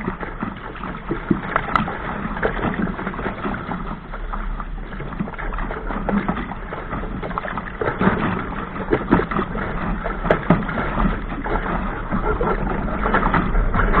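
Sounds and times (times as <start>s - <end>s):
rush of water: 0.0s - 14.0s
water splashing against a hull: 0.0s - 14.0s
wind: 0.0s - 14.0s.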